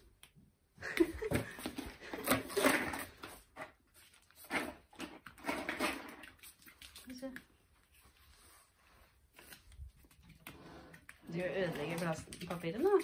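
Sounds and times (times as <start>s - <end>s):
sticks and cardboard rustling: 0.9s - 13.0s.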